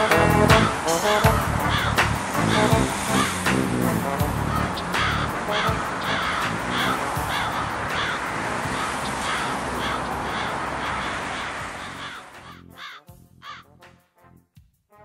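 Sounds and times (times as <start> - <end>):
crows cawing: 0.4 - 3.6, 4.3 - 13.7.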